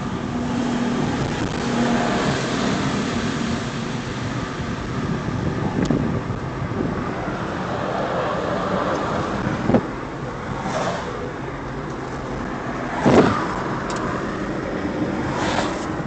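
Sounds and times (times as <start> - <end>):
car engine hum: 0.0 - 16.0
road noise: 0.0 - 16.0.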